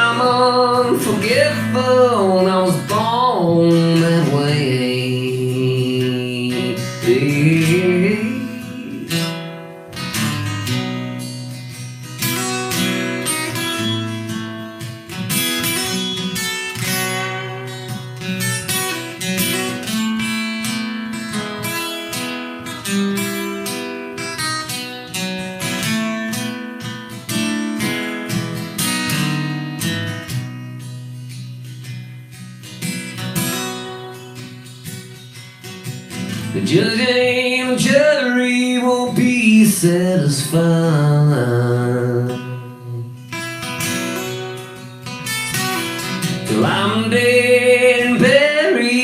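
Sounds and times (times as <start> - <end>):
acoustic guitar strumming: 0.0 - 49.0.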